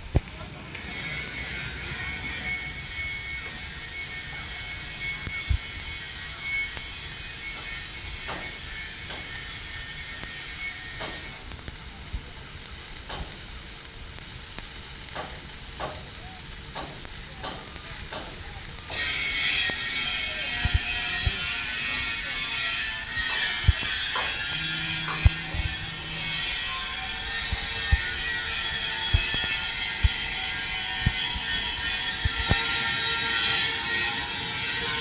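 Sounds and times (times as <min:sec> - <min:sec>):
welding arc crackling: 0:00.0 - 0:35.0.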